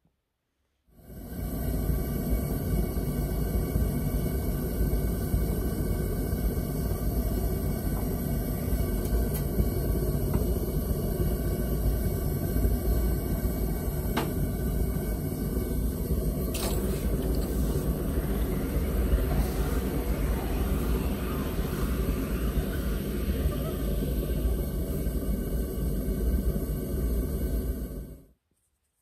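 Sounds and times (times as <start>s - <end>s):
hot steel hissing in water: 1.0s - 28.2s
forge burner rumbling: 1.0s - 28.3s.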